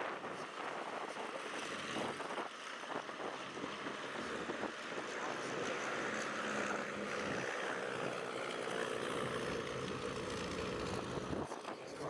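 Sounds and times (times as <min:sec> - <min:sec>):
race car engines: 0:00.1 - 0:12.0.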